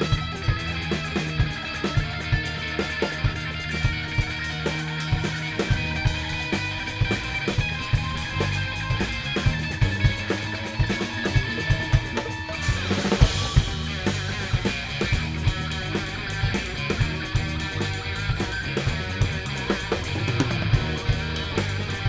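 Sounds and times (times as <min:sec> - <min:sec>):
drum kit beat: 0:00.0 - 0:22.0
electric guitars: 0:00.0 - 0:22.0.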